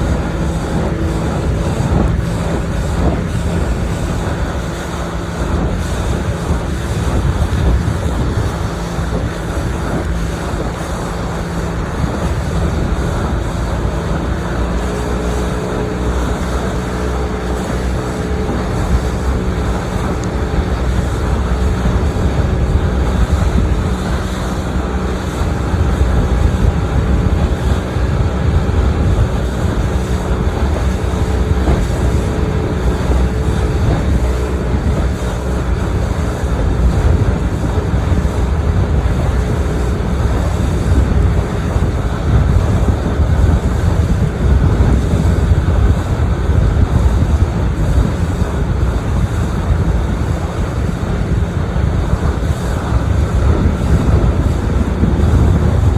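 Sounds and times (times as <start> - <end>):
motorboat engine running: 0.0 - 55.9
water rushing past hull: 0.0 - 55.9
wind buffeting microphone: 0.0 - 55.9.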